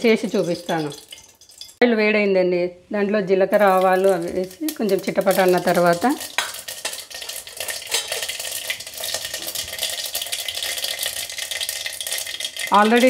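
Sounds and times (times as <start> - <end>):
seeds crackling in hot oil: 0.0 - 1.8, 3.4 - 13.0.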